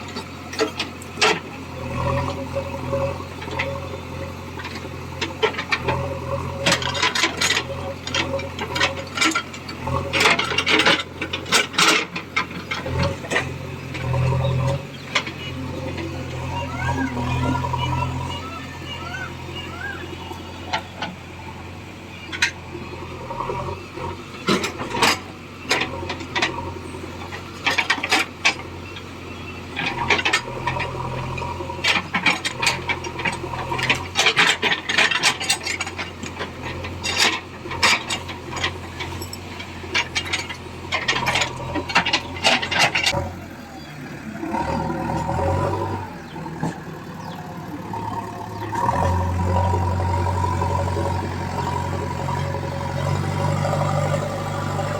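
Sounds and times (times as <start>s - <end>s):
diesel engine running: 0.0s - 54.9s
sharp rattles and scraping clatter: 0.0s - 54.9s.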